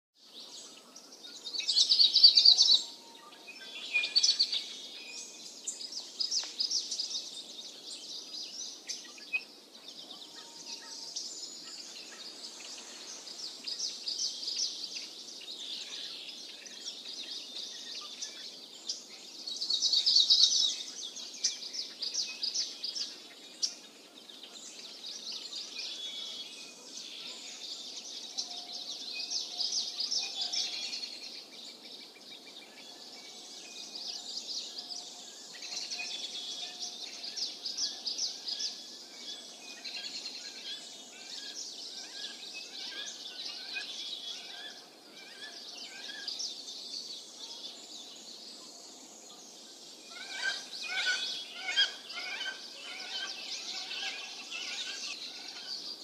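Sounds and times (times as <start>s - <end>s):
songbirds chirping: 0.2s - 56.0s
rapid bird chatter: 3.7s - 56.0s.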